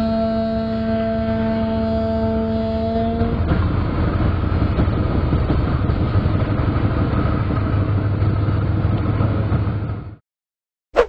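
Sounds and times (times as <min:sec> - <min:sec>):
diesel locomotive engine drone: 0:00.0 - 0:10.2.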